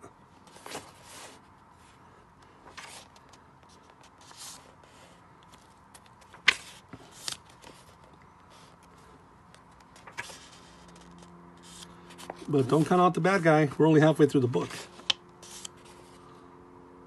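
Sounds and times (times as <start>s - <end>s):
book pages turning: 0.4s - 16.3s.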